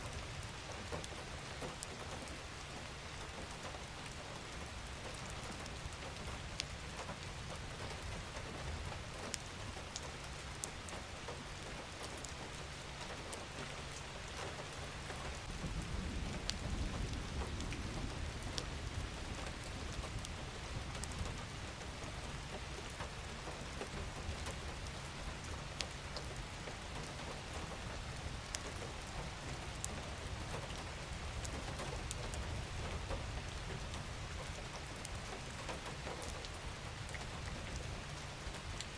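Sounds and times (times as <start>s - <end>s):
steady rain falling: 0.0s - 38.9s
raindrops ticking: 0.1s - 38.9s.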